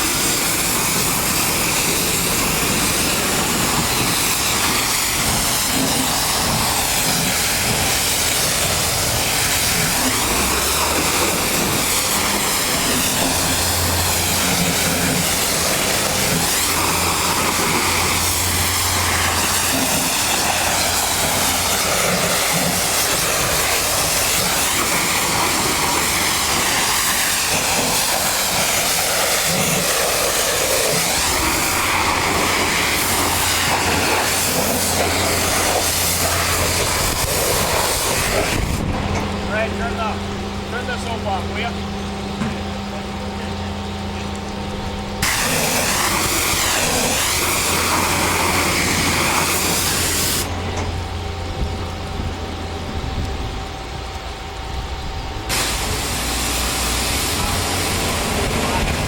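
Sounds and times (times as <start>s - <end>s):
pressure washer jet hissing: 0.0s - 42.1s, 44.8s - 52.5s, 55.4s - 59.0s
machinery humming low: 0.0s - 59.0s.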